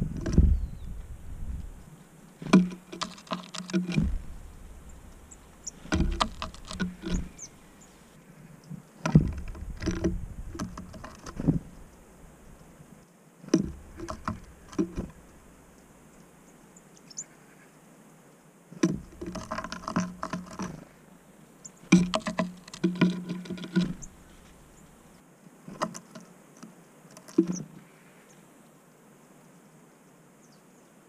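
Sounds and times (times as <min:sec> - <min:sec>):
birds pecking at peanuts: 0:00.0 - 0:17.2, 0:18.8 - 0:21.0, 0:21.6 - 0:27.9.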